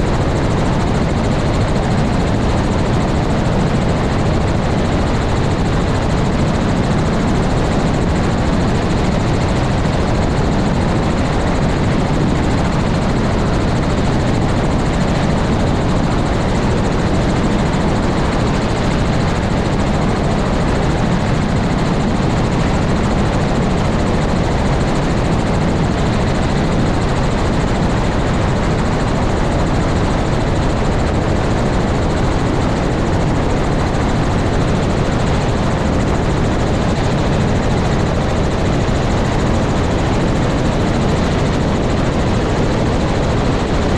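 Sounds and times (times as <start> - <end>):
helicopter rotor and engine: 0.0 - 43.9.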